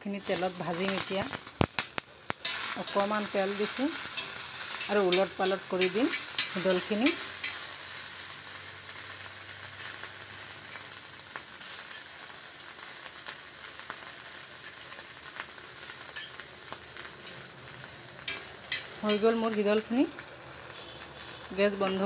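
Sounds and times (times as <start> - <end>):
fish sizzling in oil: 0.0 - 22.0.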